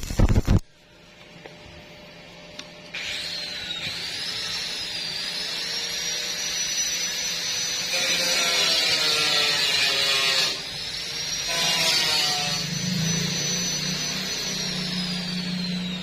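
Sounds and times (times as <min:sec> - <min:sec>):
electric power tool whining: 0:02.9 - 0:16.0.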